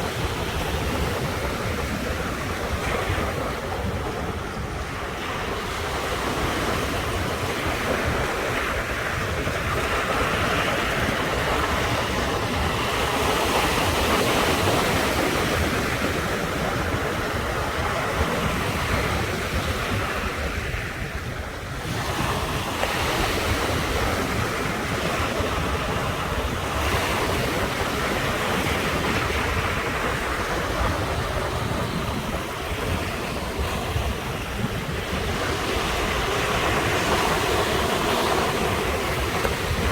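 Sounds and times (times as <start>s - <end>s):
ocean surf washing onto shore: 0.0s - 39.9s.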